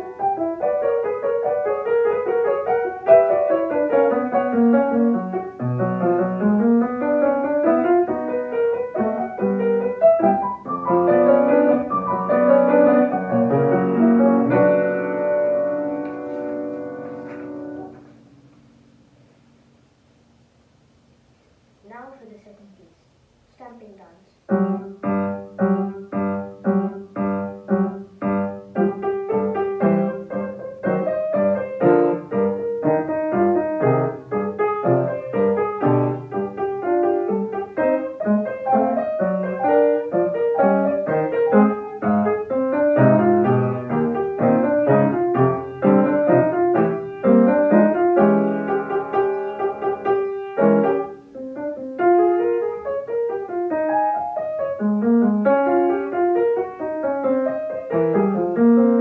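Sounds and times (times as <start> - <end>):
solo classical piano: 0.0 - 21.1, 24.4 - 59.0.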